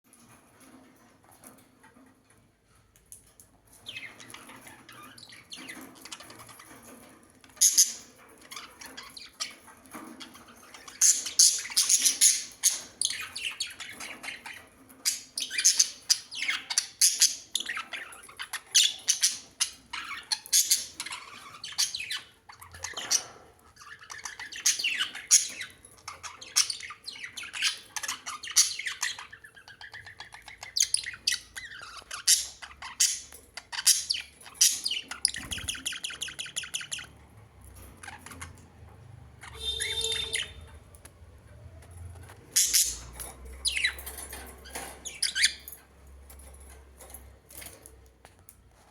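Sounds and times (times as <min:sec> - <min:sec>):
birds chirping and squawking: 0:03.7 - 0:48.9.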